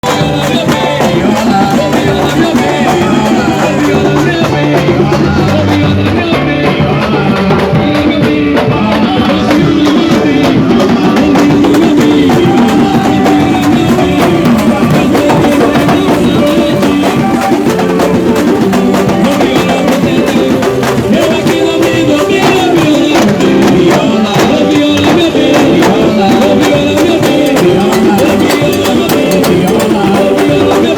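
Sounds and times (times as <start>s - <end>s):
percussion band drumming: 0.0s - 30.9s
voices singing: 0.0s - 30.9s.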